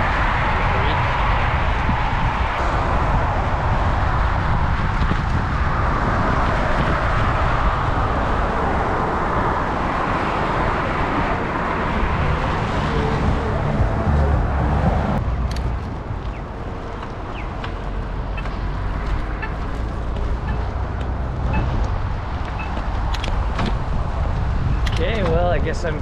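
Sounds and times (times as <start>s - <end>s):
highway traffic: 0.0s - 26.0s
wind rumbling on microphone: 0.0s - 26.0s.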